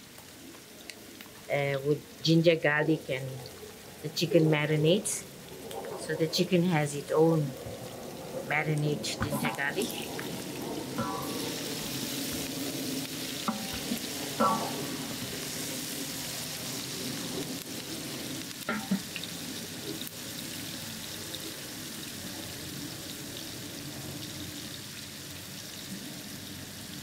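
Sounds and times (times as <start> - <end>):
onions sizzling in oil: 0.0 - 27.0.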